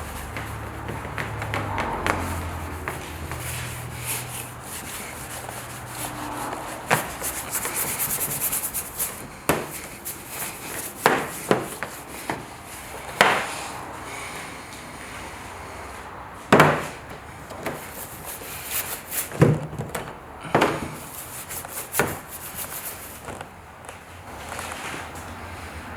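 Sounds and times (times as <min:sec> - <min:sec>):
hand rubbing car paintwork: 0:00.0 - 0:25.8.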